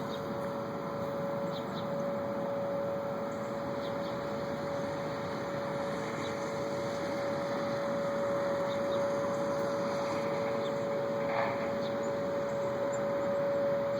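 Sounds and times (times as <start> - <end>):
constant mid-pitched tone: 0.0 - 13.9.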